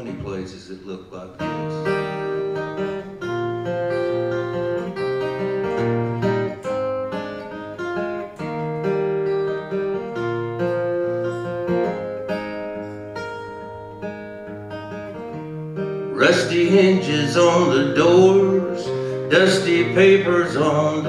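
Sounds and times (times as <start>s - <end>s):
acoustic guitar playing chords: 0.0s - 21.0s.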